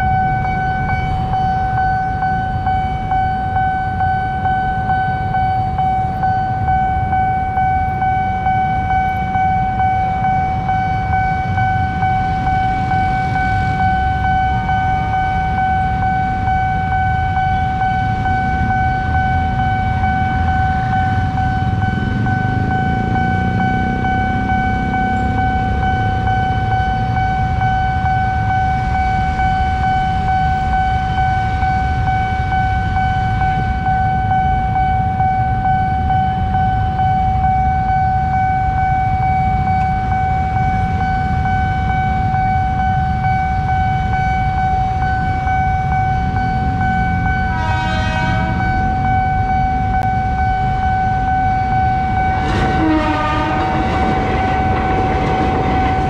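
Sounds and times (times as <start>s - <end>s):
crossing alarm high tone: 0.0s - 56.0s.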